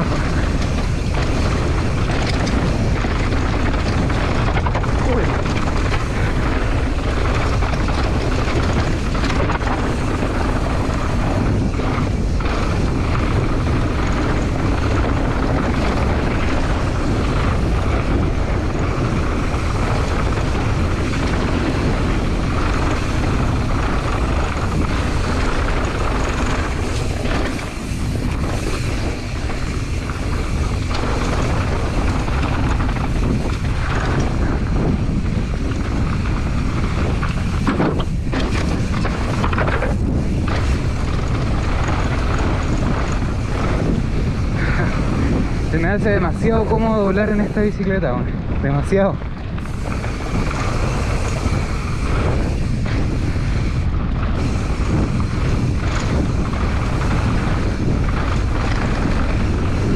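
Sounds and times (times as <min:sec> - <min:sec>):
bike tyres and frame rattling: 0:00.0 - 0:59.9
wind rushing over microphone: 0:00.0 - 0:59.9.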